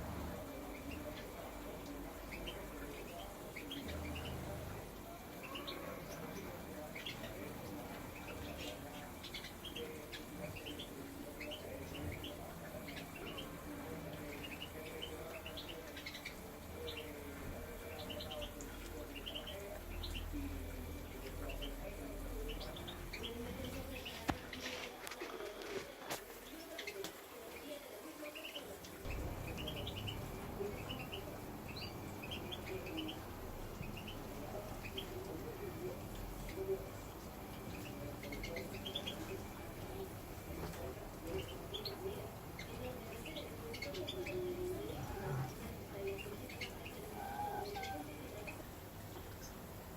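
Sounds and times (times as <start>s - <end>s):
finches chirping and twittering: 0.0s - 24.5s, 28.3s - 48.7s
low background noise: 0.0s - 49.9s.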